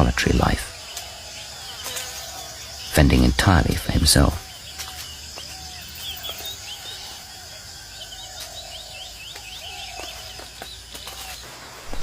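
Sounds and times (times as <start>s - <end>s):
high insect drone: 0.0s - 12.0s
soft whistled bird notes: 0.0s - 12.0s.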